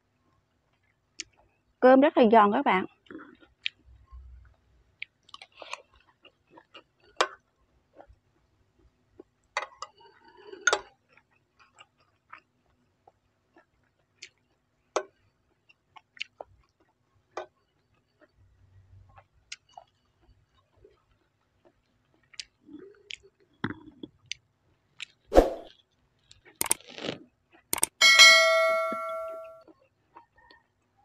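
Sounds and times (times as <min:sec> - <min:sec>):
chewing crisp food: 0:00.3 - 0:01.6, 0:02.9 - 0:27.9, 0:29.7 - 0:31.0.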